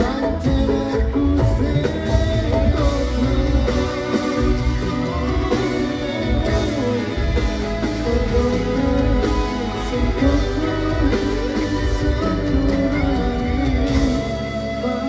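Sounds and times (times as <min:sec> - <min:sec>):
dangdut band music: 0:00.0 - 0:15.0.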